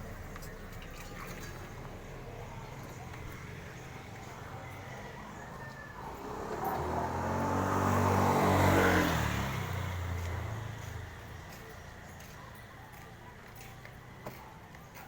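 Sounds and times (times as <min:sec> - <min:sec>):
vehicle engine passing by: 0:00.0 - 0:12.4.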